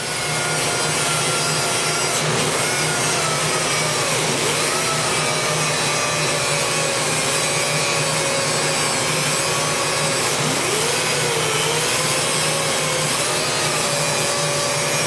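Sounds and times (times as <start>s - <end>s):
die grinder cutting steel: 0.0s - 15.0s.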